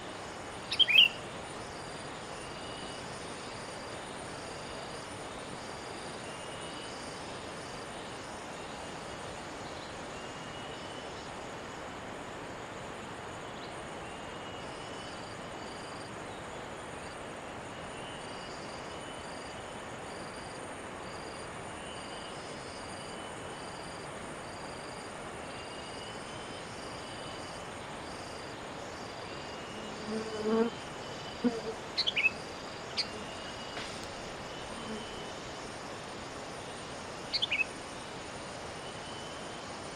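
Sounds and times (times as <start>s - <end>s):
insect chirping: 0.0s - 39.9s
outdoor background noise: 0.0s - 39.9s.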